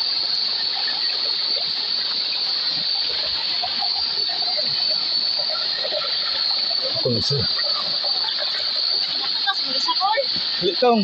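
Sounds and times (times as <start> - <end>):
high-pitched drone: 0.0 - 11.0
water trickling over rocks: 0.0 - 11.0.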